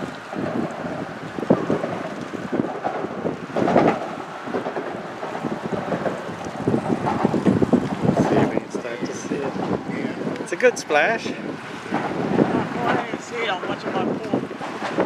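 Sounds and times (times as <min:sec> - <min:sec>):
water slapping against pilings: 0:00.0 - 0:15.0
wind gusting across microphone: 0:00.0 - 0:15.0.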